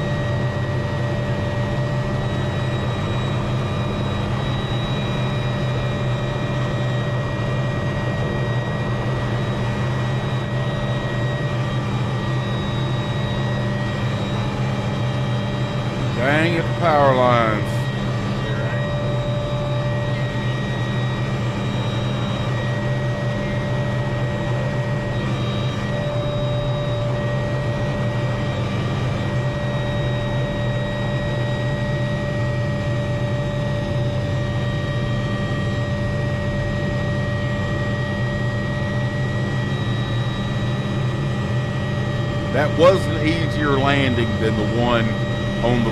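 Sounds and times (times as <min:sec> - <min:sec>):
helicopter rotor whine in cabin: 0:00.0 - 0:45.9.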